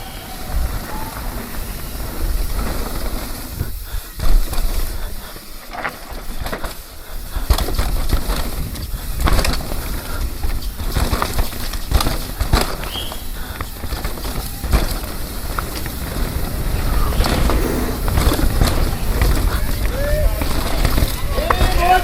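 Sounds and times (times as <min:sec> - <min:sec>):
bike chain and frame clattering: 0:00.0 - 0:22.0
tyres rolling over dirt: 0:00.0 - 0:22.0
wind buffeting microphone: 0:00.0 - 0:22.0.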